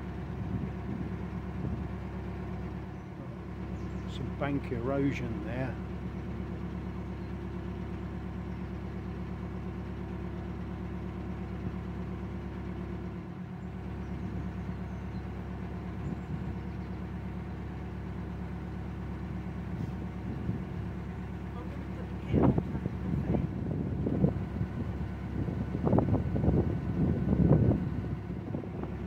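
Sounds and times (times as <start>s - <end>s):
boat diesel engine running: 0.0s - 29.0s.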